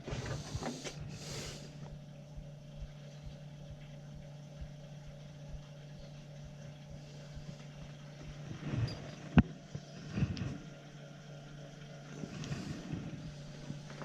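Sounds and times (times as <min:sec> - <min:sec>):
heating equipment humming: 0:00.0 - 0:14.0.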